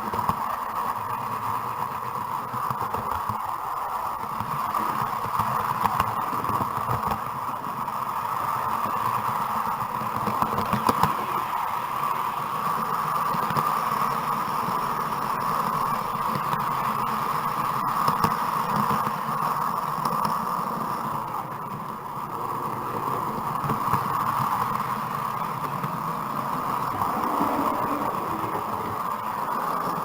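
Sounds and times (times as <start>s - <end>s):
model train running: 0.0s - 30.0s.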